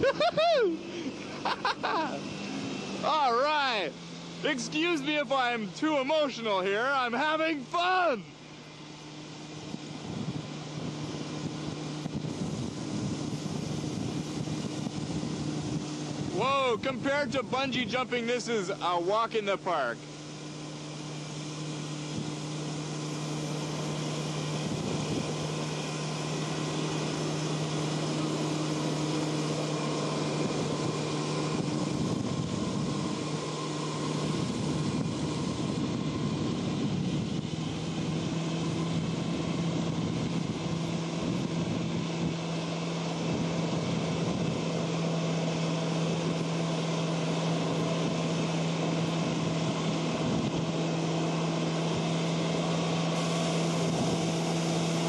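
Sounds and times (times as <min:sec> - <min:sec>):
motorboat engine humming: 0:00.0 - 0:55.0.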